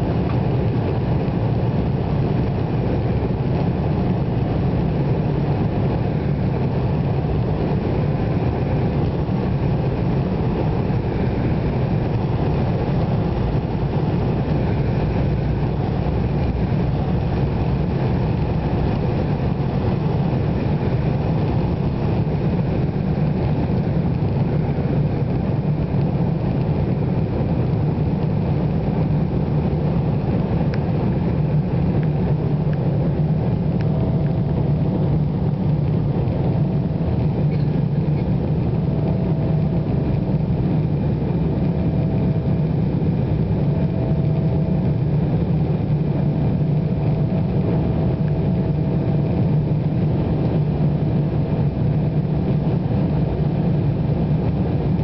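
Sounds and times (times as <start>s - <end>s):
jet engines deep rumble: 0.0s - 55.0s.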